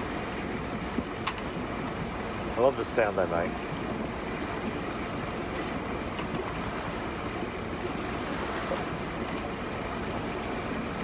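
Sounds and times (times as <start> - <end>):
water and air rushing: 0.0 - 11.0.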